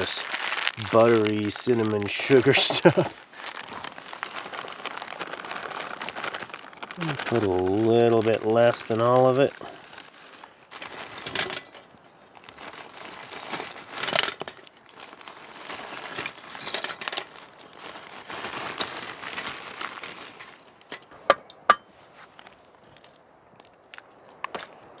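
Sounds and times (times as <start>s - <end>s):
plastic bag crinkling: 0.0s - 21.1s, 21.9s - 25.0s.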